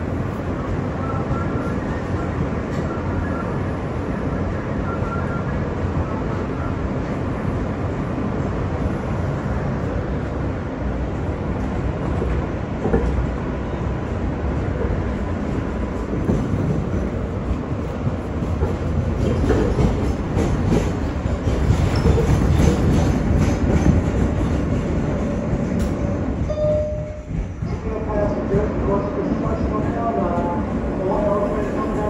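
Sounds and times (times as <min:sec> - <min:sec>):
rumble of train wheels on rail: 0:00.0 - 0:32.0.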